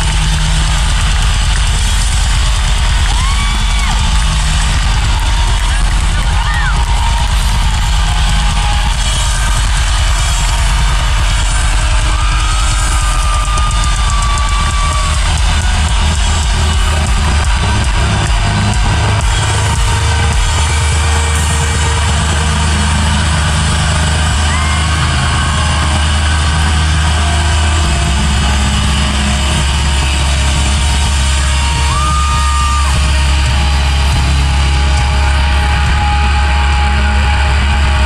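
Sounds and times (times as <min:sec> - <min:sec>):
bass: 0:00.0 - 0:38.0
distorted guitars: 0:00.0 - 0:38.0
drums: 0:00.0 - 0:38.0.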